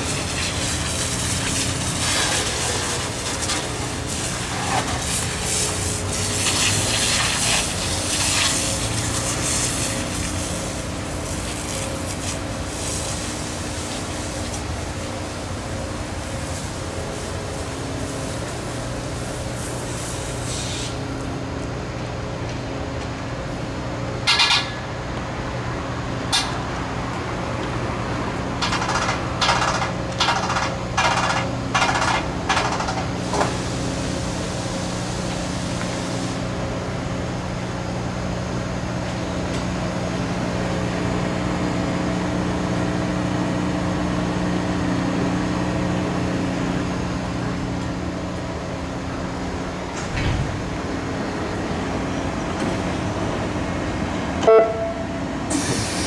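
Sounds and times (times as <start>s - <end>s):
train engine running: 0.0s - 56.0s.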